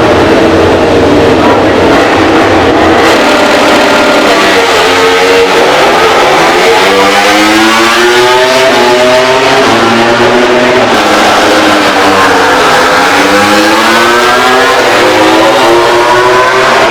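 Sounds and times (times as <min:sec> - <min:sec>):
racing motorcycle engine accelerating: 0:00.0 - 0:16.9.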